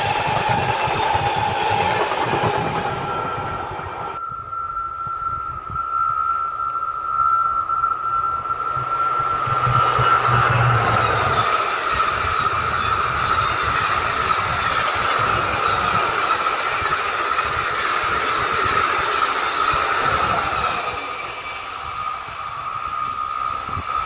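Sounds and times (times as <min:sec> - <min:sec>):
train wheels rolling on rail: 0:00.0 - 0:04.2, 0:04.8 - 0:24.0
high steady wheel squeal: 0:00.0 - 0:24.0.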